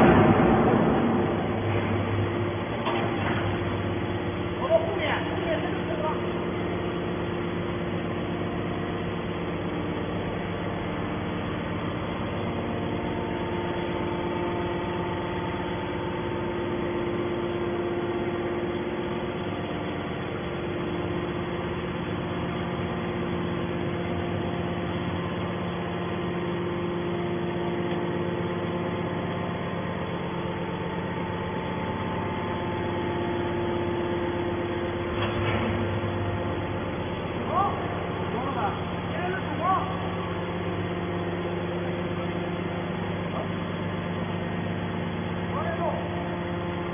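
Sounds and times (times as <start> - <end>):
hydraulic power unit humming: 0.0 - 46.9.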